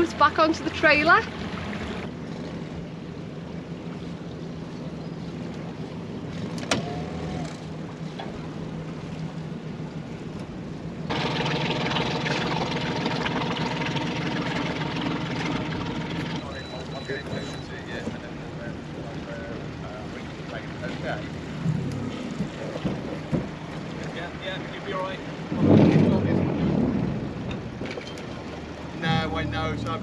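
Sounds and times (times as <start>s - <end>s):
outboard motor running: 0.0s - 30.0s
water rushing past hull: 0.0s - 30.0s.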